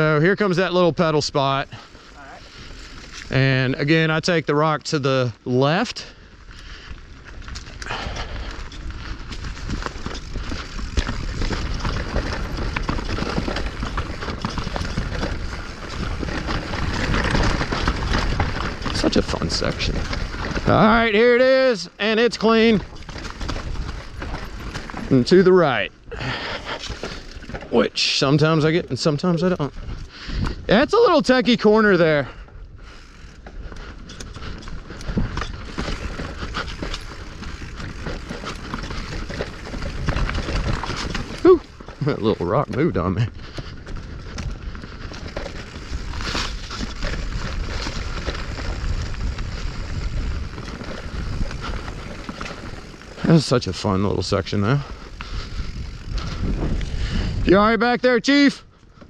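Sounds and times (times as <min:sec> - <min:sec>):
mountain bike clattering over rocks: 0:00.0 - 0:59.0.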